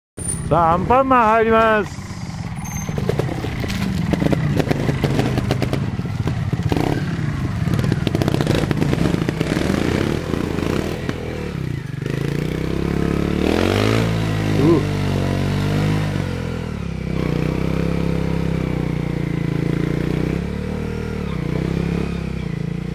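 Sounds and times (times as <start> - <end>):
motorcycle engine revving: 0.2 - 22.9.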